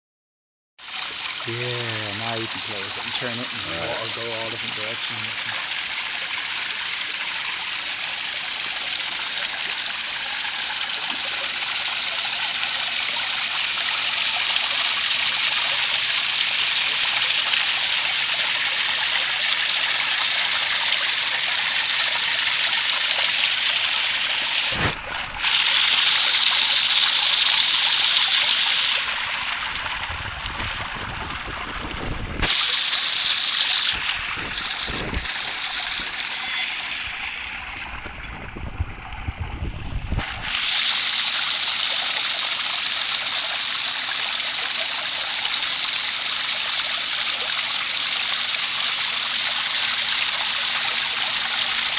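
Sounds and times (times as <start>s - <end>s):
water rushing through a tube: 1.0s - 45.4s.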